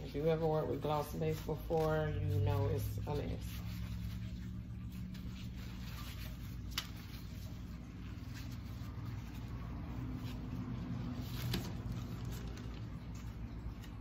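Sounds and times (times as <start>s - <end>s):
paper towel rubbing metal beaters: 0.0s - 14.0s
steady low hum: 0.0s - 14.0s.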